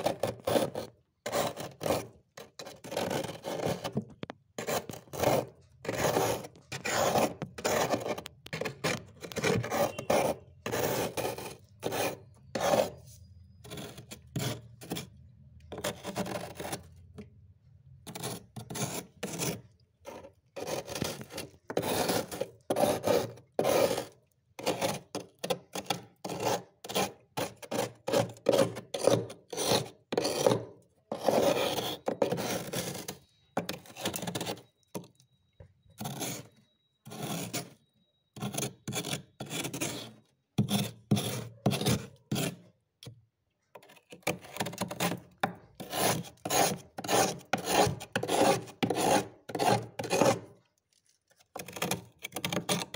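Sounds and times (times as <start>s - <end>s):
metal spoon scraping frost: 0.0s - 17.2s, 18.0s - 42.8s, 43.8s - 52.9s.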